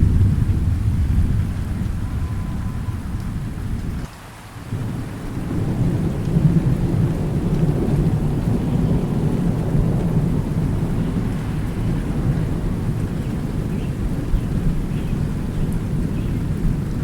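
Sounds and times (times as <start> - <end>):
low thunder rumble: 0.0 - 4.1, 4.7 - 17.0
steady rain hiss: 0.0 - 17.0.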